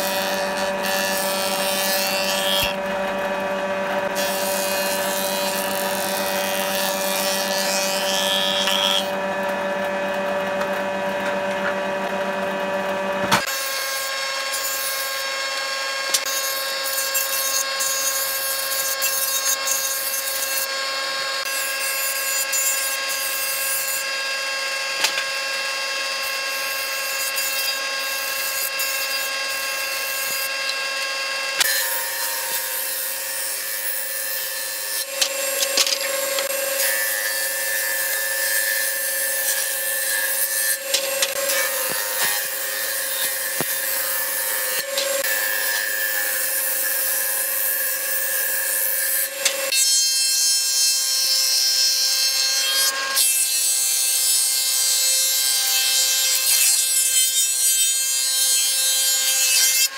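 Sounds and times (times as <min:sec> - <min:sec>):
jointer motor whine: 0:00.0 - 0:51.0.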